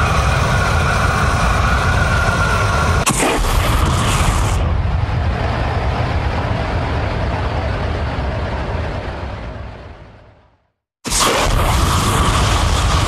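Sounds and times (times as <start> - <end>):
spaceship engine rumble: 0.0 - 10.6.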